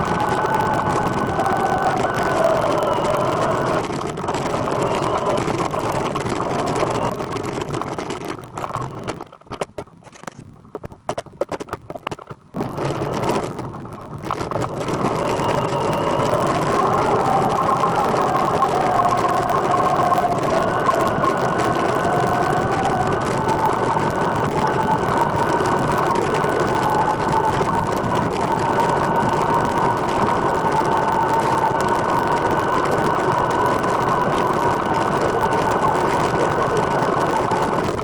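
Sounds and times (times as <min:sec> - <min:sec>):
thin wavering whine: 0:00.0 - 0:07.8, 0:12.6 - 0:38.0
tyre and drivetrain noise: 0:00.0 - 0:38.0.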